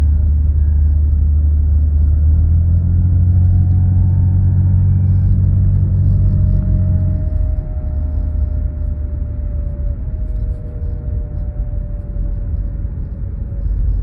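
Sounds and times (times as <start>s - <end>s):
car engine rumbling: 0.0s - 14.0s
faint whine: 0.0s - 14.0s.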